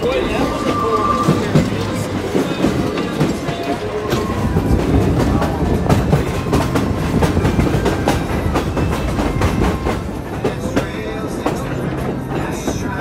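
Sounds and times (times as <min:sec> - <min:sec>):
train wheels rumbling on rail: 0:00.0 - 0:13.0
wheels clattering clicks: 0:00.0 - 0:13.0.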